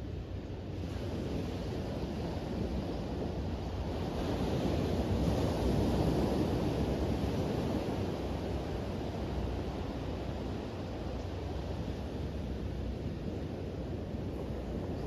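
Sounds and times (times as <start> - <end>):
wind noise on microphone: 0.0 - 15.0
waves washing onto beach: 0.7 - 15.0.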